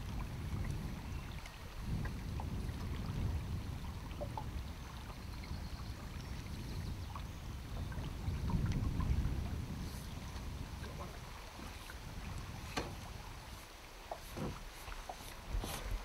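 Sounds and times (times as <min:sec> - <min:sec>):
water lapping at boat: 0:00.0 - 0:16.0
wind buffeting microphone: 0:00.0 - 0:16.0.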